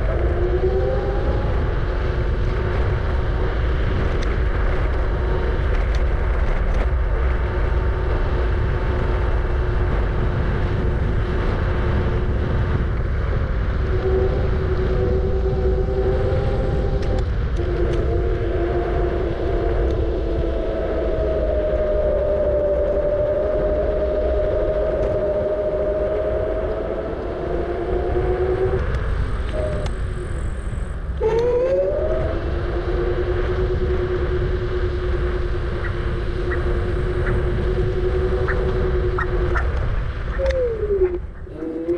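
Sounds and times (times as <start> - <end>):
electric scooter motor whining: 0.0 - 41.9
wind rumble on microphone: 0.0 - 41.9.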